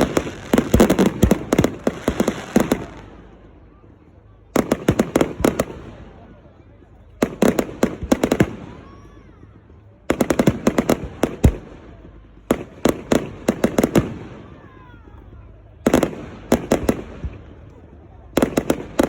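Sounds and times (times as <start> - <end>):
fireworks exploding: 0.0 - 19.0.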